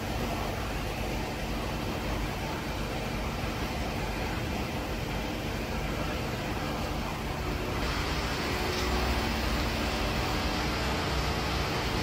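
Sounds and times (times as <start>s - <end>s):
machining center humming and hissing: 0.0s - 12.0s.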